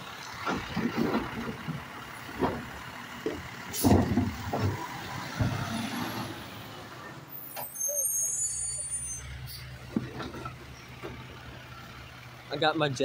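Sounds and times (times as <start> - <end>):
diesel engine running: 0.0 - 7.5, 9.3 - 13.0.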